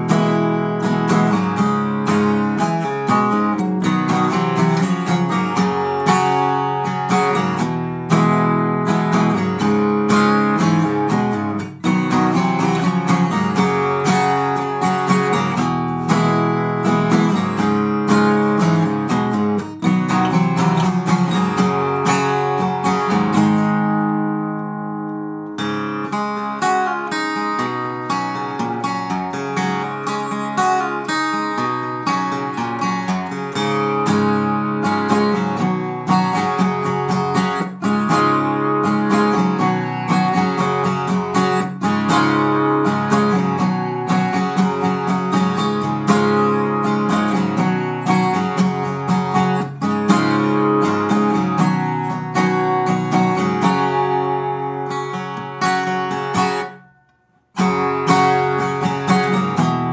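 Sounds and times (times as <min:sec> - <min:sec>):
strummed acoustic guitar: 0:00.0 - 0:59.9.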